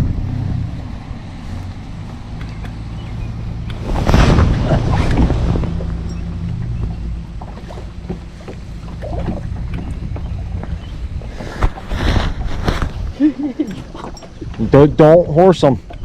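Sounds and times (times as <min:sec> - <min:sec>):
boat motor humming: 0:00.0 - 0:16.0
wind rumbling on microphone: 0:00.0 - 0:16.0.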